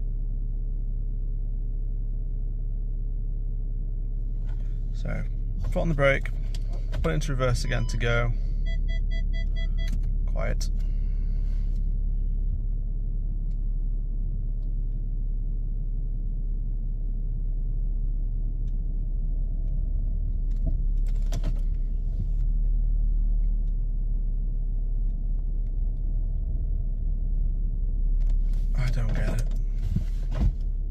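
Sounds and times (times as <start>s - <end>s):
diesel engine idling: 1.0s - 30.9s.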